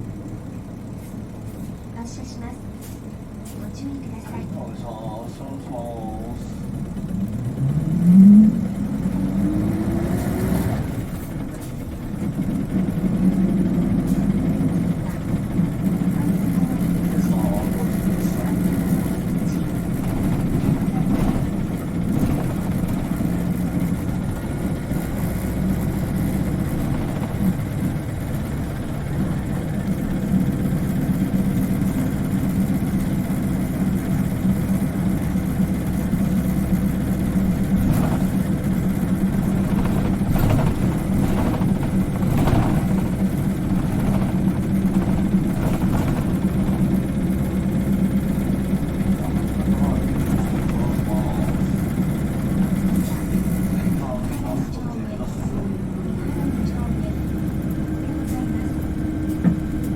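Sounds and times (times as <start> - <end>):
bus diesel engine running: 0.0 - 59.9
road noise: 0.0 - 59.9.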